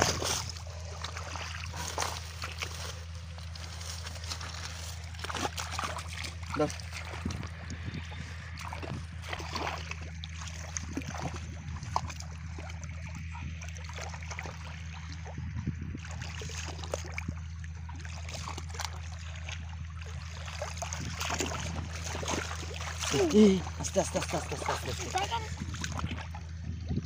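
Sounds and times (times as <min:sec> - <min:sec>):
muddy water splashing: 0:00.0 - 0:27.0
steady low hum: 0:00.0 - 0:27.0.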